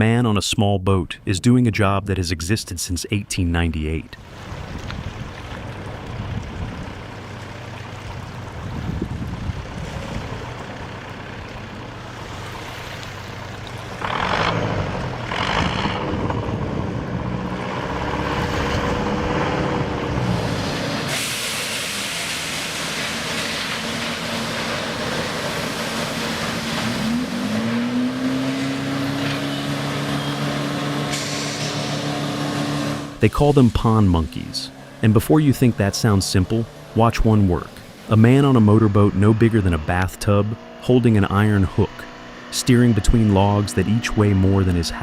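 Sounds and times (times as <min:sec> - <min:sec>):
engine humming and revving: 0:04.2 - 0:45.0.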